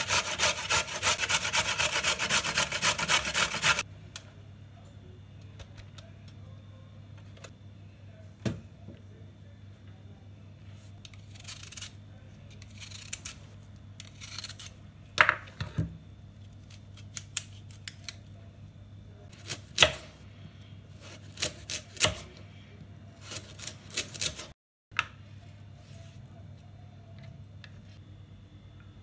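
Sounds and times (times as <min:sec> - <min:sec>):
steady low hum: 0:00.0 - 0:24.0, 0:25.0 - 0:29.0.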